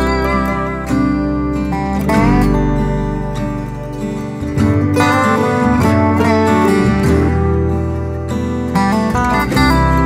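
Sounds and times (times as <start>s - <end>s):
guitar-led background music: 0.0s - 10.0s.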